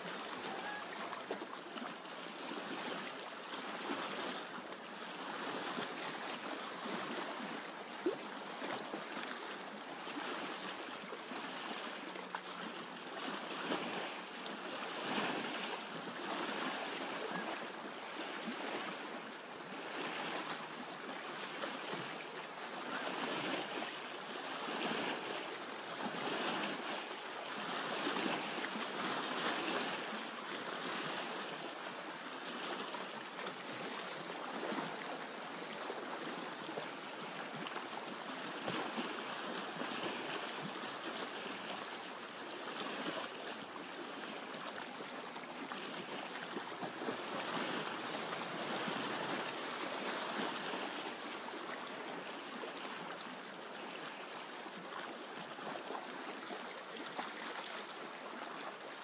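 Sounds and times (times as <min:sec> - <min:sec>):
small waves lapping over rocks: 0:00.0 - 0:59.0.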